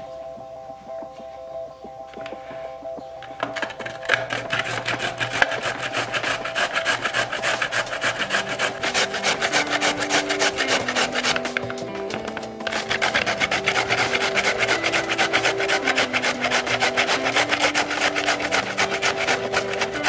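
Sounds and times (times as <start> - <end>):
carrot grated on metal grater: 3.4 - 20.0.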